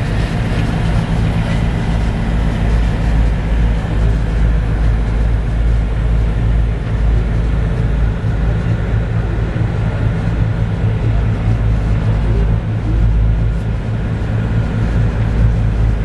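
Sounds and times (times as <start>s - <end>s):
ferry engine droning: 0.0s - 16.0s.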